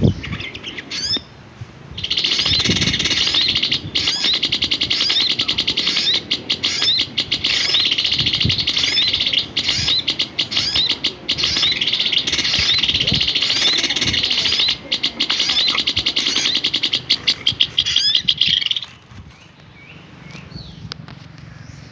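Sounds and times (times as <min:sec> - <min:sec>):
songbird chirping and trilling: 0:00.0 - 0:21.9.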